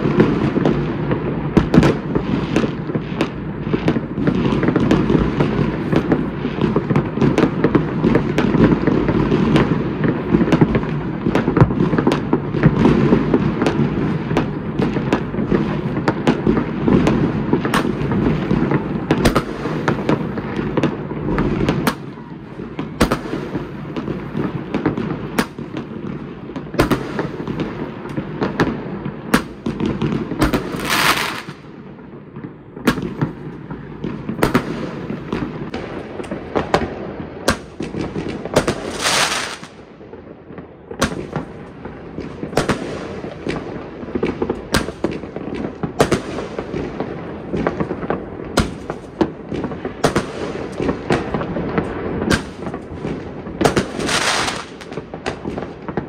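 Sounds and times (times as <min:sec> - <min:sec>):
hissing firework bursts: 0:00.0 - 0:40.3, 0:40.9 - 0:56.0
fireworks bangs: 0:00.0 - 0:56.0.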